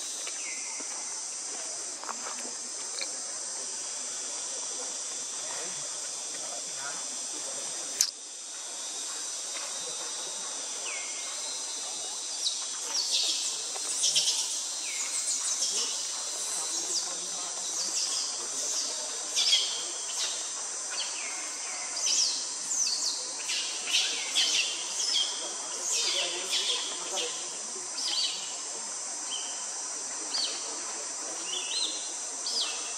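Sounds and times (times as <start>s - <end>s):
high insect drone: 0.0s - 32.9s.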